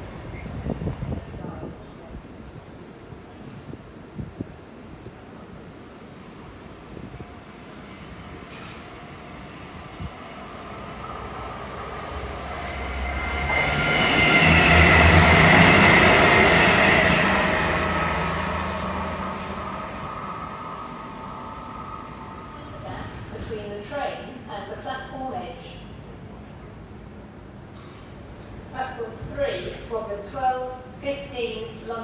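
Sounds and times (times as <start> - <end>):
express train passing: 0.0 - 28.8.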